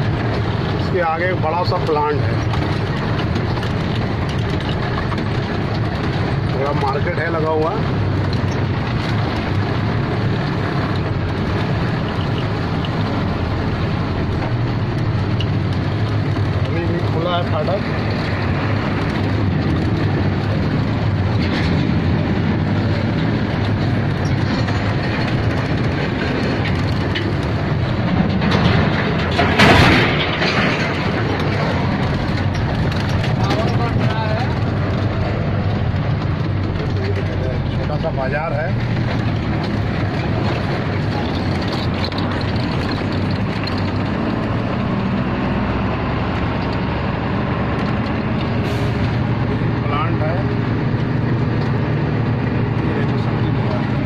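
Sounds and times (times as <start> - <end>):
cab rattling and clattering: 0.0 - 54.0
road noise: 0.0 - 54.0
truck diesel engine running: 0.0 - 54.0.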